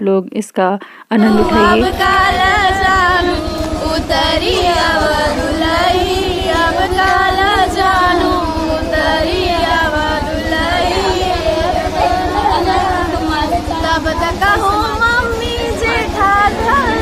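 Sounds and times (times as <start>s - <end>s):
women singing in chorus: 1.1s - 17.0s.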